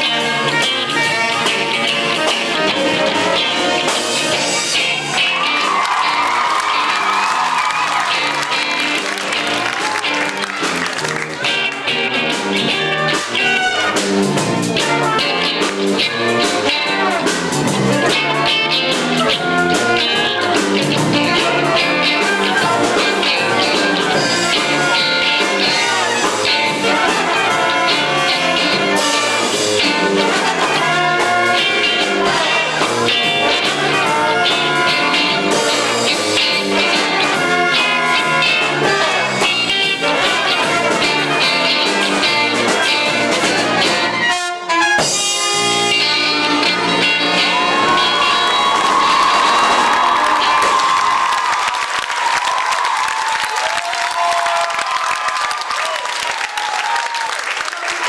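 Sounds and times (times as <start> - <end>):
brass music: 0.0 - 51.7.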